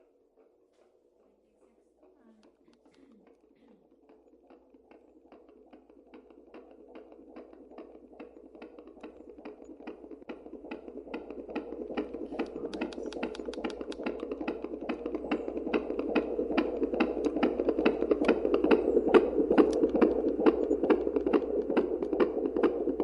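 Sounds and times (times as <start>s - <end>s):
fast baby heartbeat: 0.0s - 23.0s.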